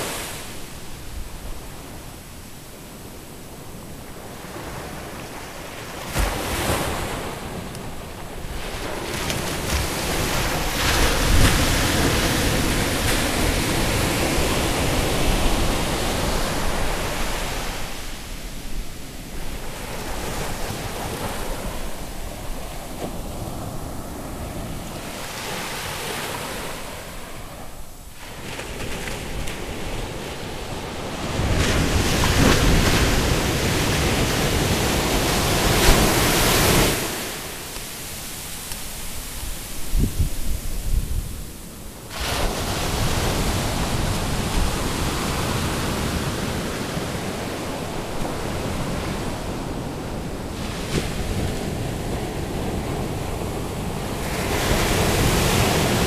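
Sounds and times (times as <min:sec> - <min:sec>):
ocean surf breaking on beach: 0:00.0 - 0:56.0
wind on microphone: 0:00.0 - 0:56.0.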